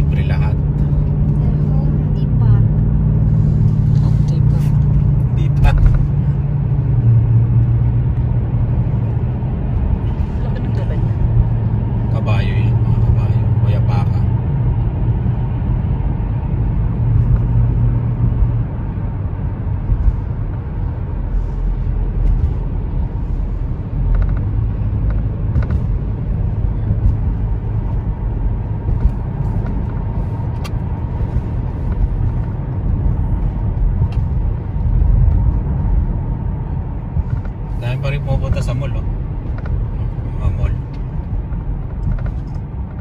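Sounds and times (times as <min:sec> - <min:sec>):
car engine and tyres rumbling: 0:00.0 - 0:43.0.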